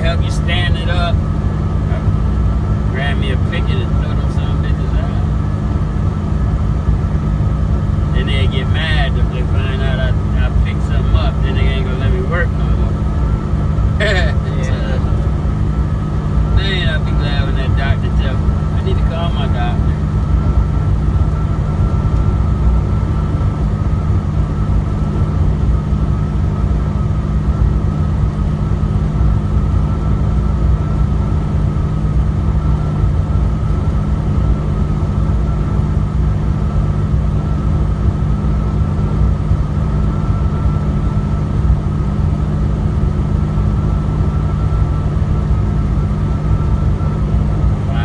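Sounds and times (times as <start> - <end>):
truck engine drone inside cab: 0.0 - 48.0.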